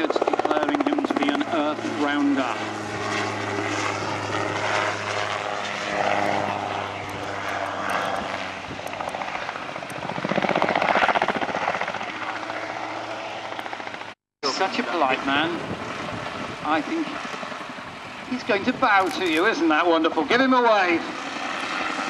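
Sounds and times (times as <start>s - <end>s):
autogyro engine and propeller drone: 0.0s - 22.0s.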